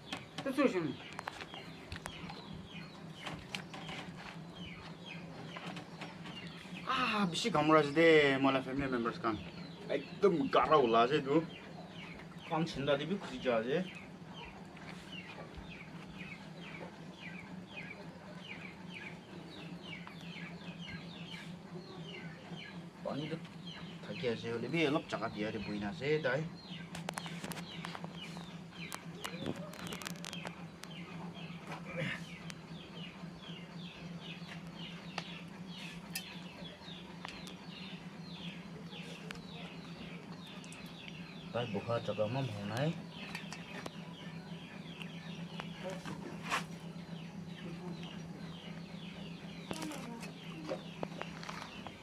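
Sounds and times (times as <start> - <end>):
birds chirping: 0.0 - 52.0
steady low hum: 0.0 - 52.0.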